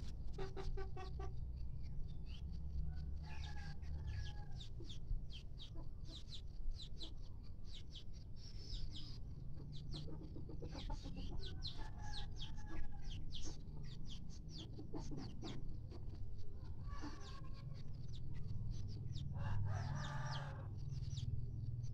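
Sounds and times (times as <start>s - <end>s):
chickens clucking: 0.0s - 2.0s, 3.3s - 7.7s, 8.9s - 21.7s.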